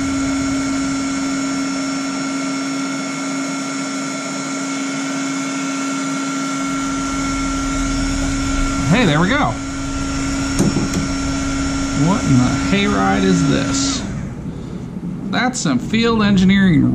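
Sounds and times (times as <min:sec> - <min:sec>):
heat gun blowing and humming: 0:00.0 - 0:14.5.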